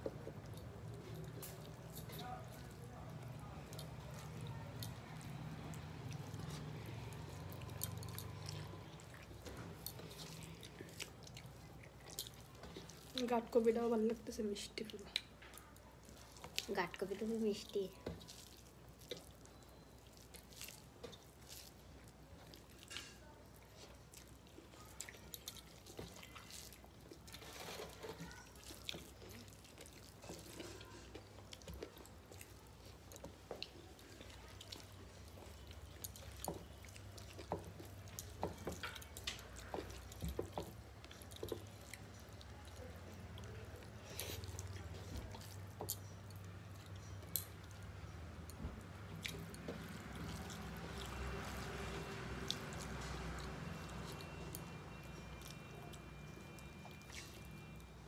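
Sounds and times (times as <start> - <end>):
fingers squishing rice: 0.0 - 58.0
chewing and lip smacks: 0.1 - 58.0.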